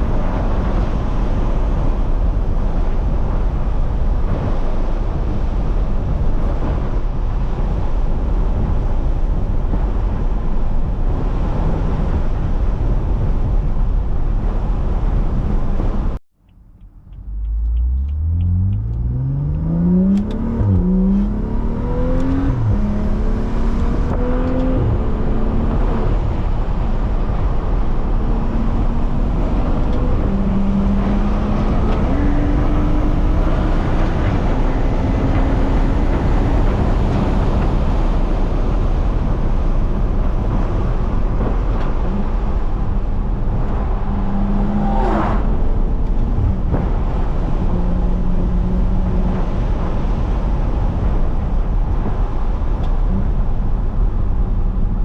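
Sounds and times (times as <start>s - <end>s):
car engine accelerating and shifting: 0.0s - 55.0s
road noise: 0.0s - 55.0s.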